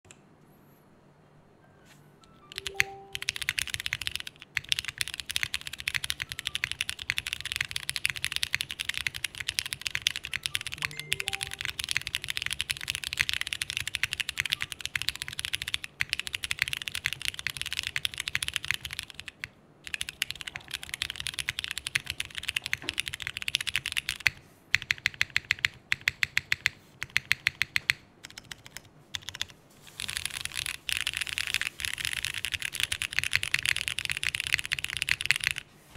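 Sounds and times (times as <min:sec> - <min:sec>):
mechanical keyboard typing: 0:02.2 - 0:35.7.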